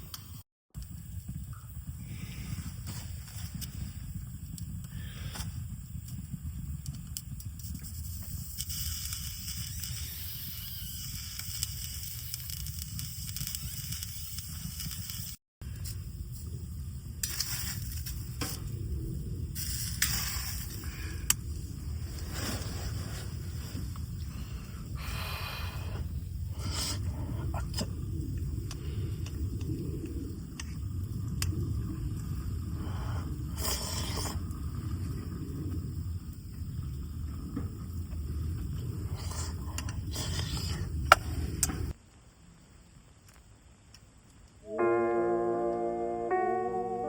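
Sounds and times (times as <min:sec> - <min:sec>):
fire low rumble: 0:00.0 - 0:44.5
campfire crackling and popping: 0:00.1 - 0:22.2, 0:25.8 - 0:42.0.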